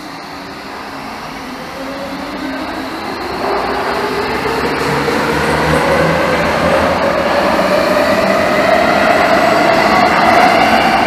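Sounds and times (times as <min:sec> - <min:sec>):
train cars rumbling: 0:00.0 - 0:11.0.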